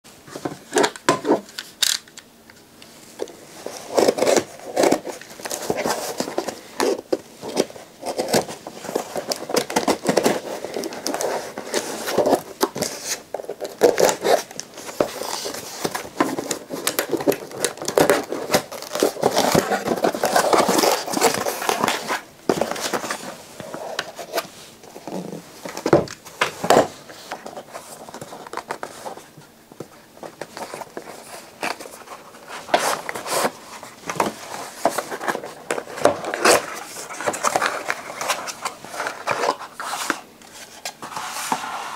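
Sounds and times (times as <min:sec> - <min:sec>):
cardboard crinkling and scraping: 0:03.1 - 0:41.9.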